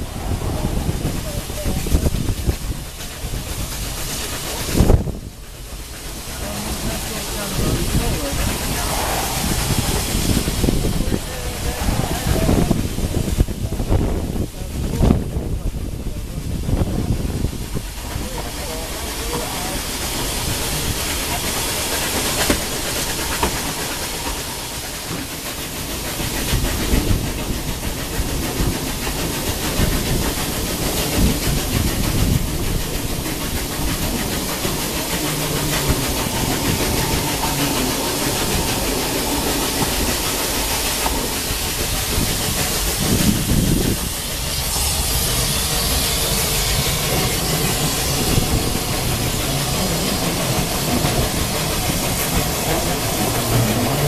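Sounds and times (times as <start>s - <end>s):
steam locomotive hissing: 0.0s - 54.0s
train coach rumbling on track: 0.0s - 54.0s.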